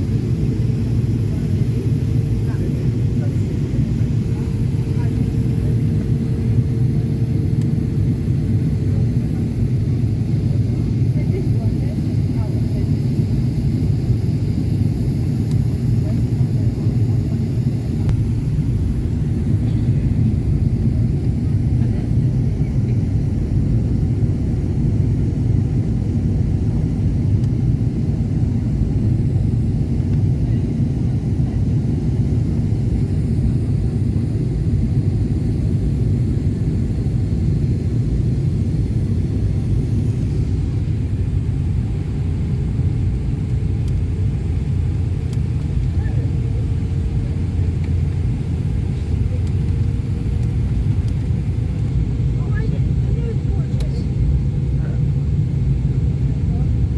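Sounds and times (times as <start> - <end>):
airflow noise: 0.0 - 54.5
jet engines rumbling: 0.0 - 56.9.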